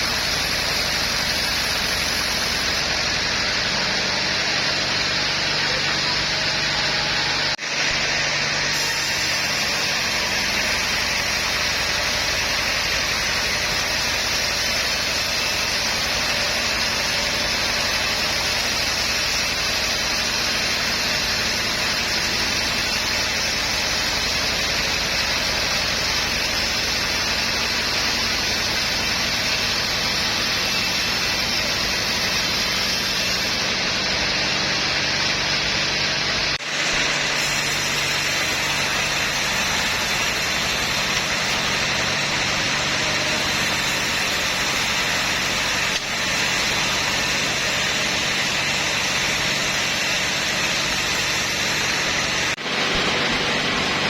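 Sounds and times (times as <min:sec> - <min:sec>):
sawmill machinery hum and hiss: 0:00.0 - 0:54.0.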